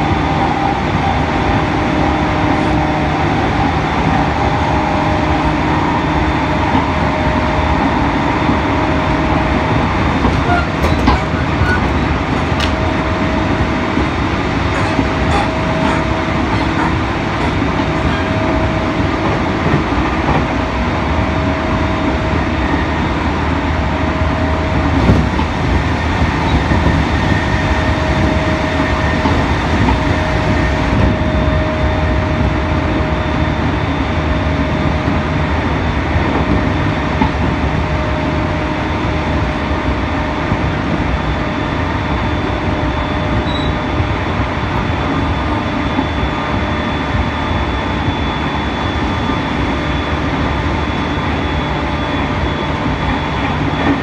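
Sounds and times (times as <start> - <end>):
train motor whine: 0.0 - 54.0
train wheels and motors rumbling: 0.0 - 54.0.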